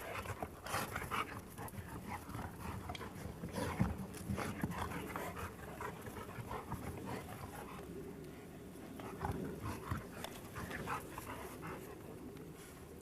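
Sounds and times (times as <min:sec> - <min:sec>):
dog panting: 0:00.0 - 0:12.9.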